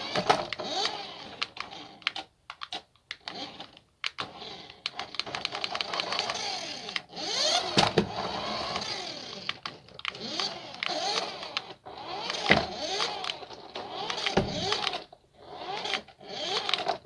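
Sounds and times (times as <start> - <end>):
toy car electric motor whirring: 0.0 - 17.0.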